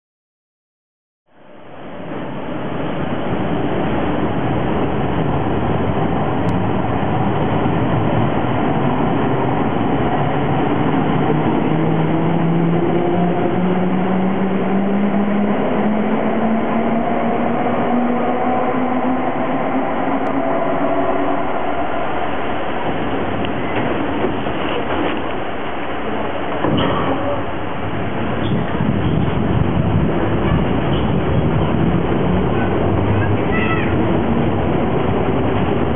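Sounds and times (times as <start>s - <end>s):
train wheels rumbling on rail: 1.7s - 35.9s.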